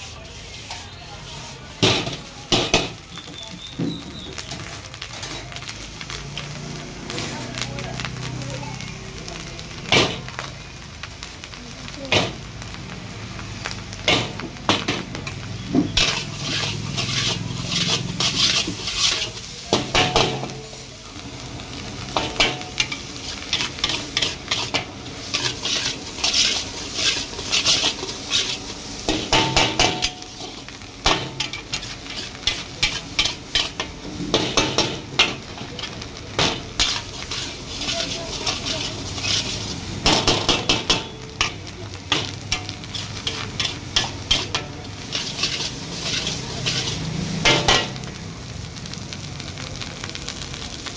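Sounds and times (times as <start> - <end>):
metal spatula scraping wok: 0.0 - 3.0, 3.6 - 8.3, 13.6 - 20.9, 21.6 - 48.2
sizzling in hot pan: 0.0 - 50.9.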